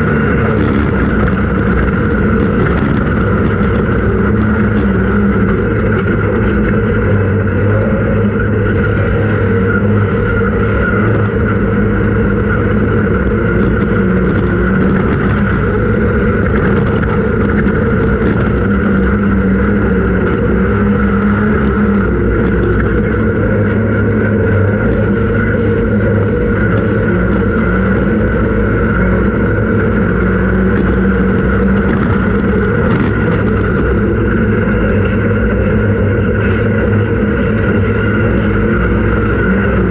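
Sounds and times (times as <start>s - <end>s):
engine running at steady revs: 0.0s - 39.9s.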